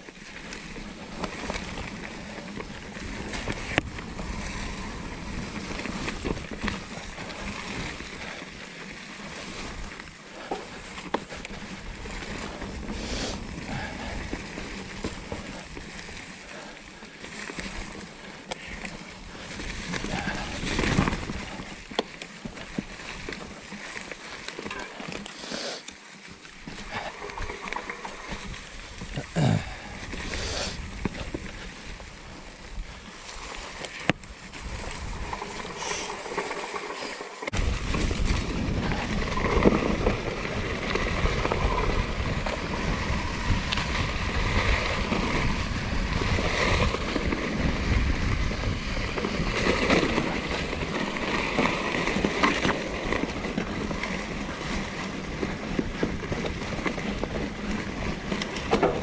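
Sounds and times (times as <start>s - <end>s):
bike rattling and clicking: 0.0s - 59.0s
bike tyres on dirt: 0.0s - 59.0s.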